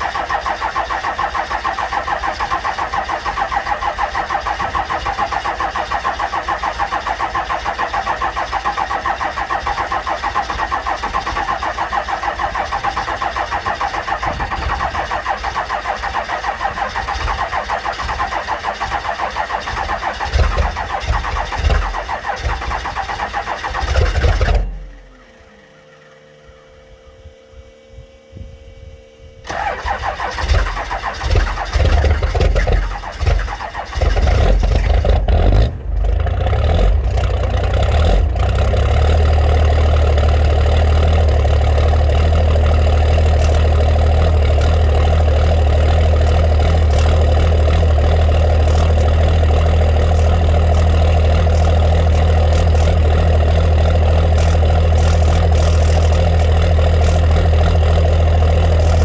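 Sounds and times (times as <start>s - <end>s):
diesel engine cold starting and idling: 0.0s - 27.3s, 29.3s - 59.0s.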